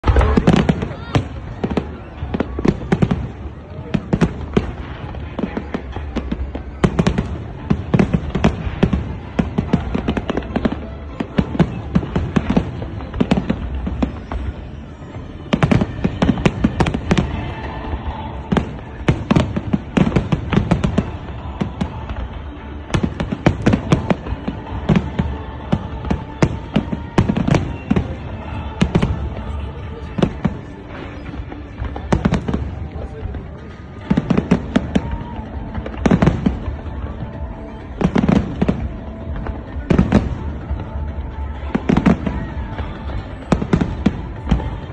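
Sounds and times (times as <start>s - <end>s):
fireworks bursting and crackling: 0.0s - 44.9s.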